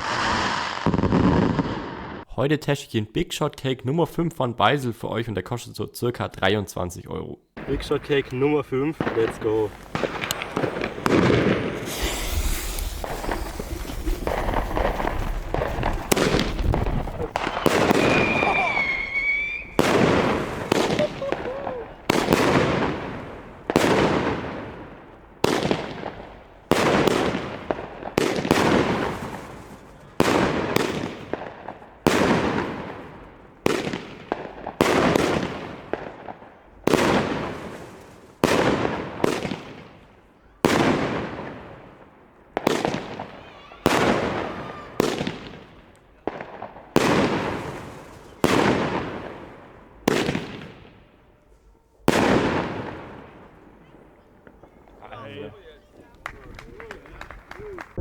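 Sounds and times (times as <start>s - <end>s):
firework crackle: 0.0s - 2.3s, 7.6s - 58.0s
firework cake bangs: 7.6s - 51.2s, 52.1s - 55.0s.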